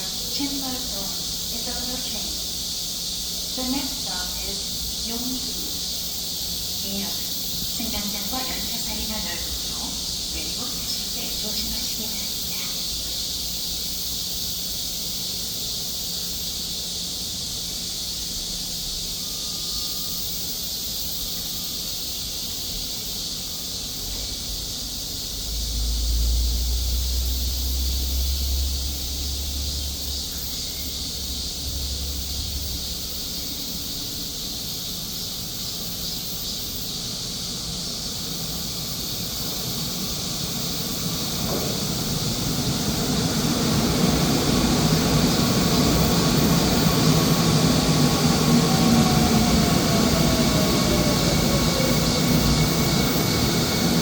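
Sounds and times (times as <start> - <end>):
train rumble: 0.0 - 21.8, 23.7 - 54.0
steady high hiss: 0.0 - 54.0.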